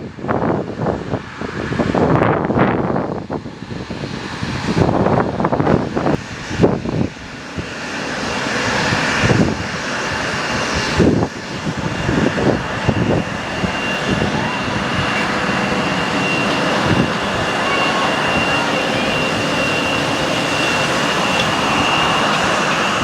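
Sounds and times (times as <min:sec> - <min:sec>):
airliner engines approaching: 0:00.0 - 0:23.0
wind buffeting microphone: 0:00.0 - 0:23.0.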